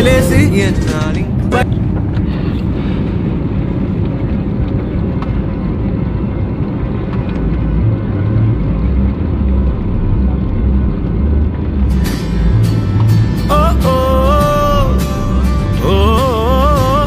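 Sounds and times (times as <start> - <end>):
airplane engine rumble in cabin: 0.0 - 17.0.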